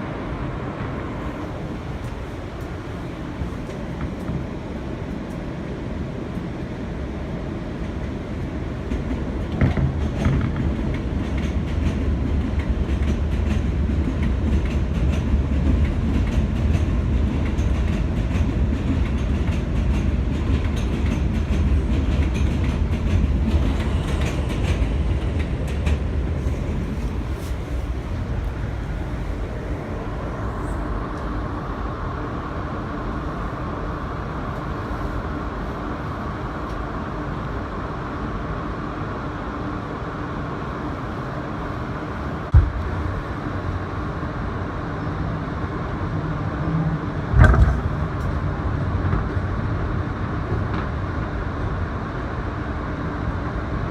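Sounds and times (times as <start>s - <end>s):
subway car rumble: 0.0s - 53.9s.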